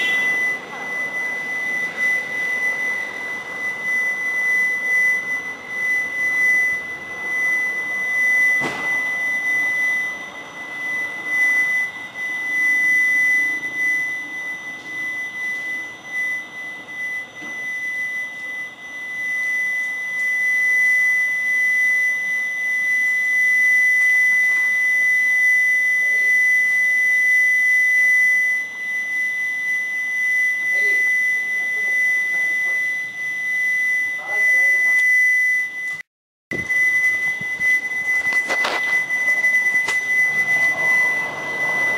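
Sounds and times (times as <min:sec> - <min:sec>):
fainter higher tone: 0:00.0 - 0:41.9
steady high-pitched tone: 0:00.0 - 0:41.9.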